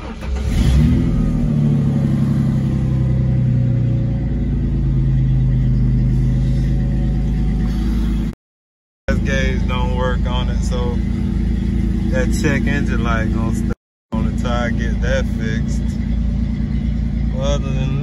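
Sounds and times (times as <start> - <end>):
car engine starting and idling: 0.0 - 8.4, 9.1 - 18.0.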